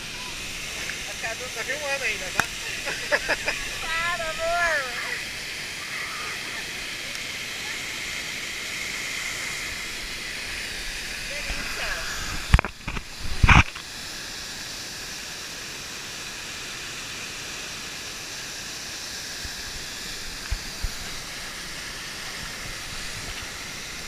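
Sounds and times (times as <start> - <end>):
waterfall rushing hiss: 0.0 - 24.0.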